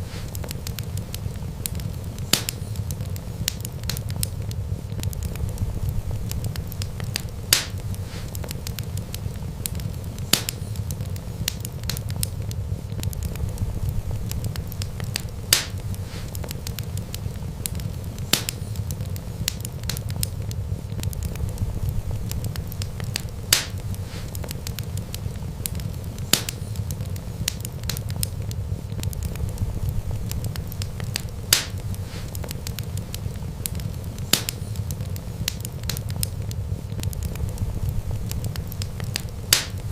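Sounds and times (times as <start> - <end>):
loud sharp pops of fire: 0.0 - 39.9
wood fire crackling: 0.0 - 39.9.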